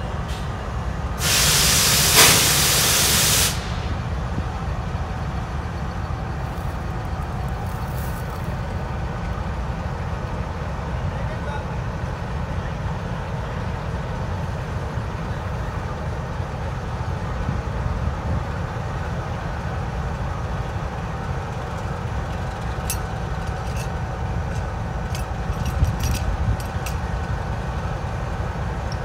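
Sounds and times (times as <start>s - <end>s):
locomotive engine rumbling: 0.0s - 29.0s.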